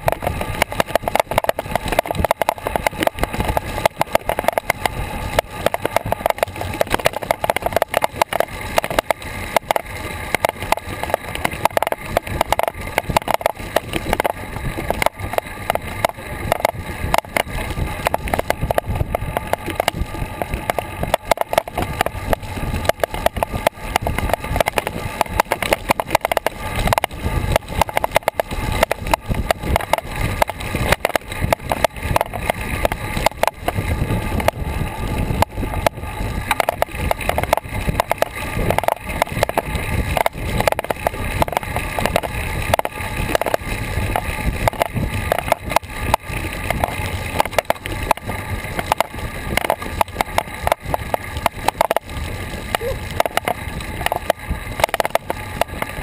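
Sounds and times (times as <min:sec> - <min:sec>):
bicycle rattling and knocking: 0:00.0 - 0:56.0.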